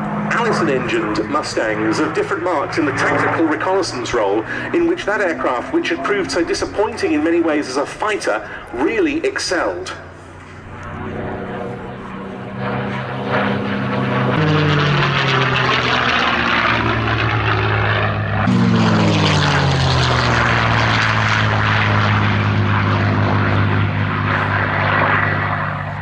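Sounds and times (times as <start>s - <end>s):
propeller plane engine fly-past: 0.0s - 26.0s.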